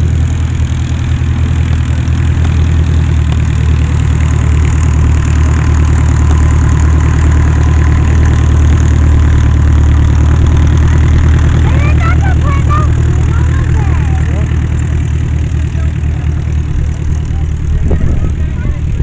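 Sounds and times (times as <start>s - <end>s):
propeller aircraft engine idling: 0.0s - 19.0s.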